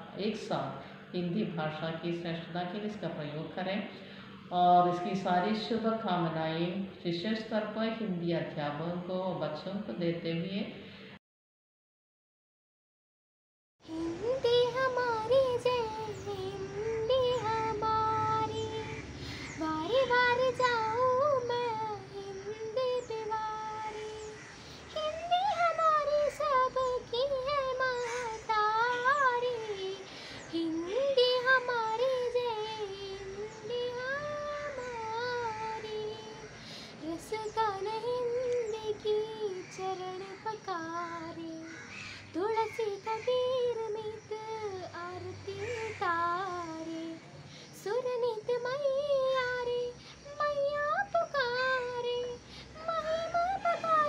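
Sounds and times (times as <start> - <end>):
girl singing unaccompanied: 0.0 - 10.6, 13.8 - 54.0.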